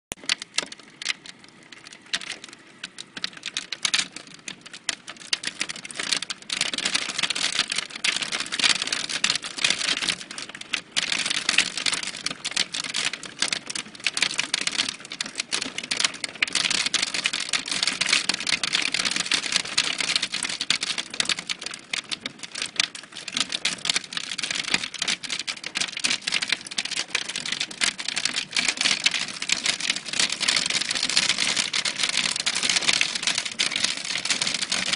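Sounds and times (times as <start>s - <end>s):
hailstones clicking on hard surfaces: 0.1s - 34.9s.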